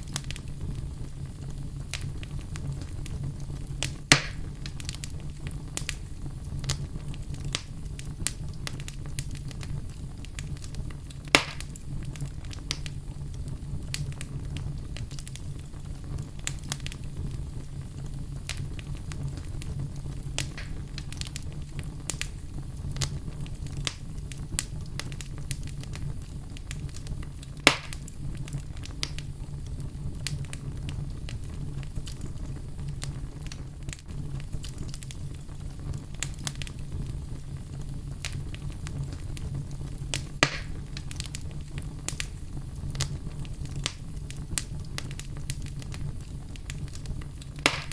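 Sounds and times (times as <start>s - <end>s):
loud fire pops: 0.0s - 47.9s
wood fire crackling: 0.0s - 47.9s.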